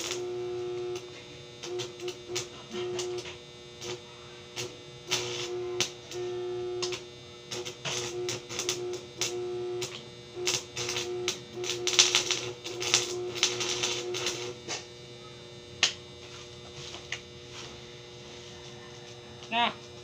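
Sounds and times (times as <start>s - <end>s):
welding arc crackling: 0.0s - 15.1s, 15.7s - 18.2s
welder hum: 0.0s - 20.0s.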